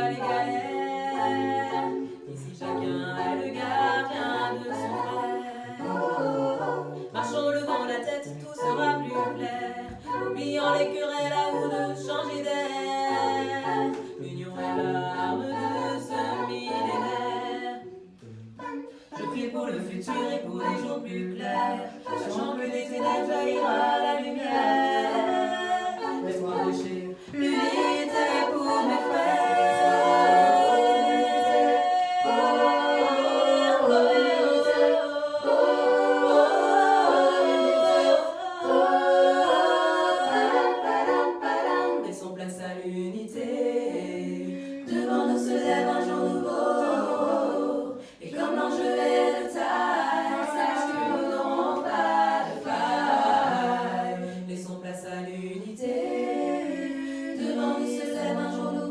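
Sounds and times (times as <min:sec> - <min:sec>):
a cappella group singing: 0:00.0 - 0:58.9.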